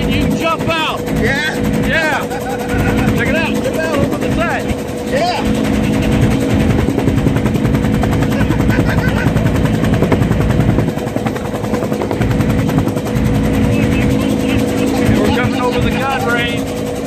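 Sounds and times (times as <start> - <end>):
helicopter engine hum: 0.0 - 17.0.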